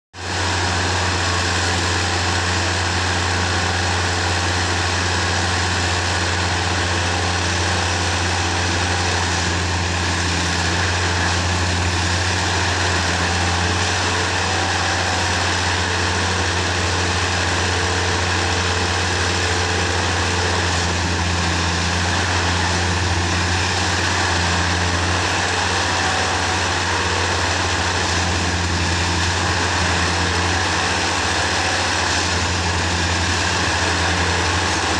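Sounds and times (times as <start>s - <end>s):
tamping machine droning: 0.1s - 34.9s.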